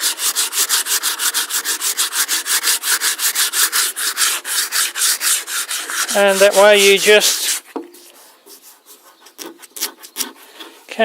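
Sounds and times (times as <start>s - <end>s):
sandpaper rubbing on wood: 0.0s - 11.0s.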